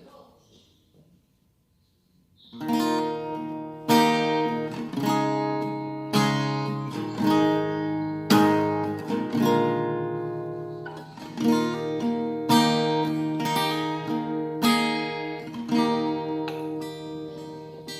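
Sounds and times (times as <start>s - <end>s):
acoustic guitar strumming chords: 2.4s - 17.9s.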